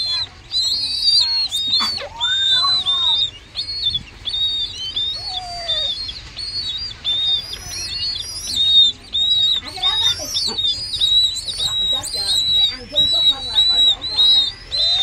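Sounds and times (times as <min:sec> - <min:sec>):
chicks peeping: 0:00.0 - 0:15.0
low gliding bird call: 0:00.0 - 0:15.0.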